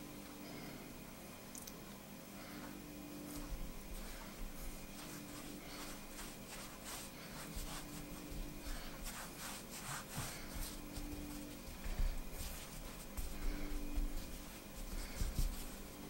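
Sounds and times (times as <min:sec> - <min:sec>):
hands rubbing dough on floured surface: 0:02.4 - 0:16.0.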